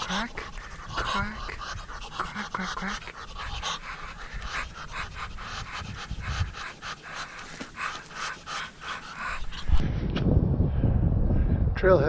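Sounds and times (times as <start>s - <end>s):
runner panting: 0.0s - 10.2s.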